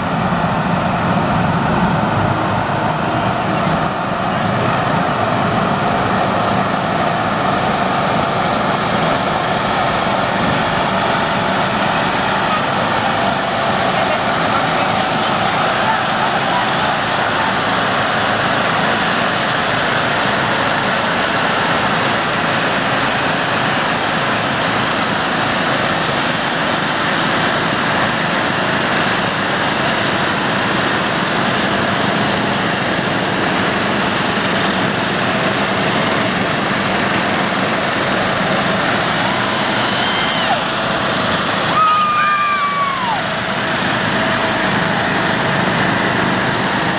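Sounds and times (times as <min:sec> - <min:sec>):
lawn mower engines droning: 0:00.0 - 0:46.9.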